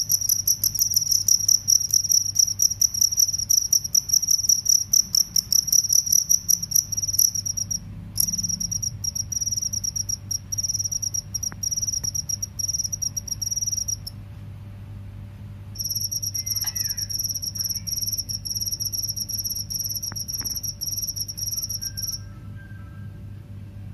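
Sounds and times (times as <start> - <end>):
crickets chirping: 0.0 - 14.2, 15.8 - 22.5.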